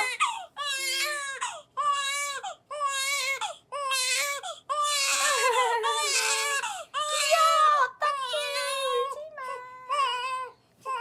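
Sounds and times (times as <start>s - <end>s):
newborn baby crying: 0.0s - 11.0s.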